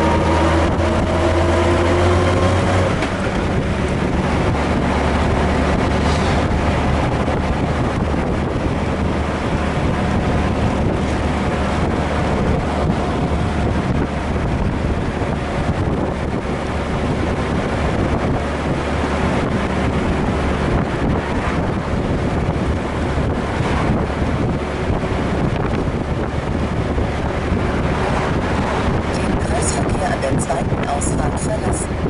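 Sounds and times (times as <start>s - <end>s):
motorcycle engine drone: 0.0s - 32.0s
wind rush on microphone: 0.0s - 32.0s.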